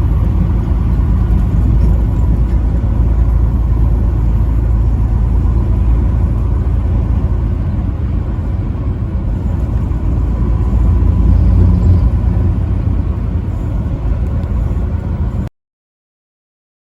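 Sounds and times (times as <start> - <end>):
truck driving rumble: 0.0 - 15.5.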